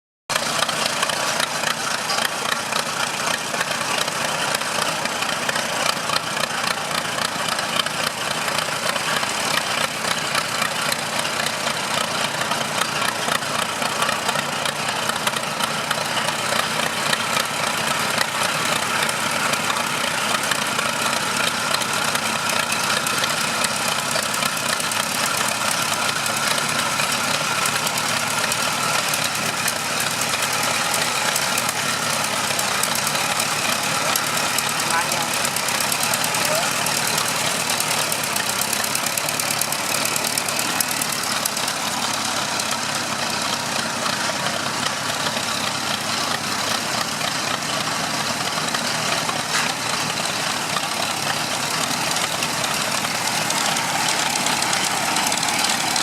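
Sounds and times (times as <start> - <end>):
tractor engine running: 0.3 - 56.0.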